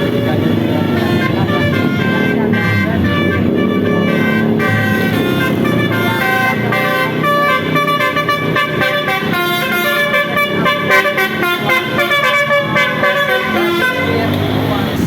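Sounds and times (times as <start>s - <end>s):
musical air horn playing a tune: 0.0s - 14.6s.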